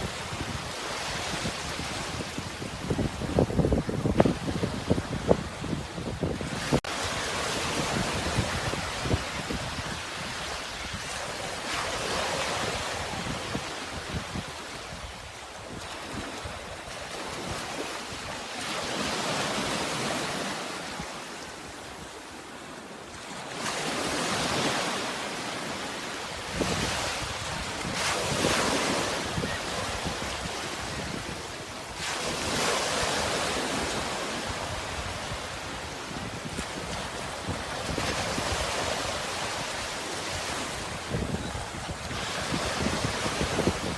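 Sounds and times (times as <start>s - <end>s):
sea waves washing onto shore: 0.0s - 43.9s.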